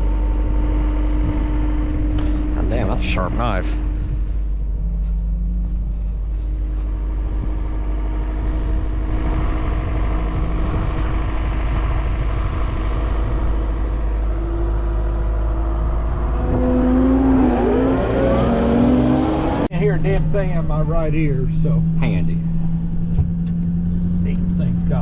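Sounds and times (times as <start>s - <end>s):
vehicle engine low rumble: 0.0s - 25.0s.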